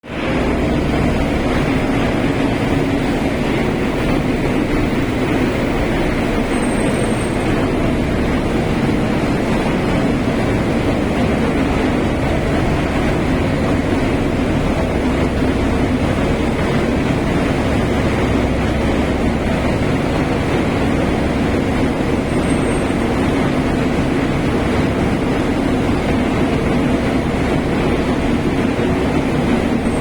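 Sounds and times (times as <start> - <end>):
machinery rumbling and droning: 0.0 - 30.0.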